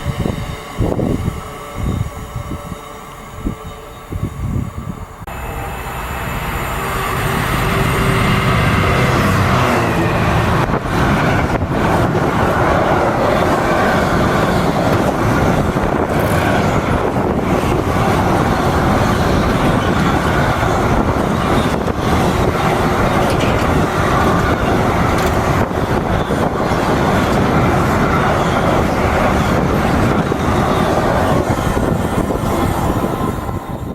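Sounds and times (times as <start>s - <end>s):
train wheels on rail: 0.0s - 33.9s.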